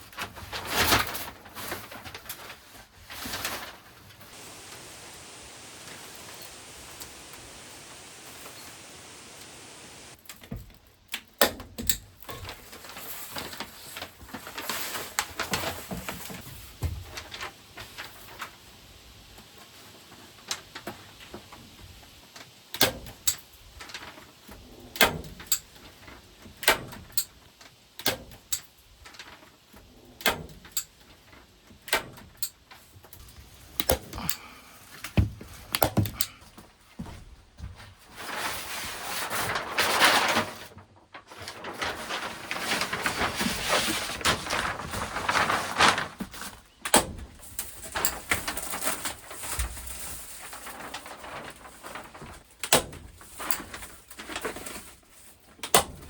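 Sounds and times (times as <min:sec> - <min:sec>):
rustling and handling noise: 0:00.0 - 0:22.7, 0:28.7 - 0:56.0.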